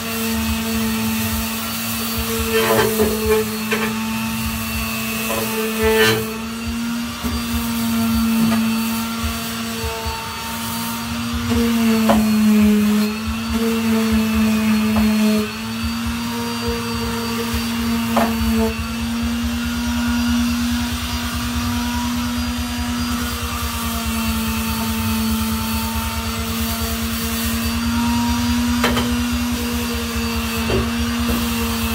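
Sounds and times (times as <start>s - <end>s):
power sander on metal: 0.0s - 31.9s.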